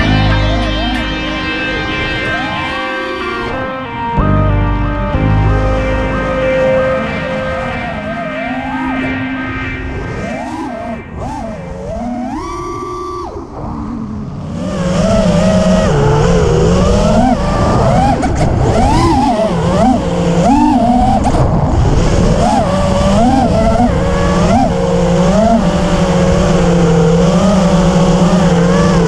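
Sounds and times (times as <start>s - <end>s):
quadcopter motors whining: 0.0s - 3.9s, 6.6s - 29.0s.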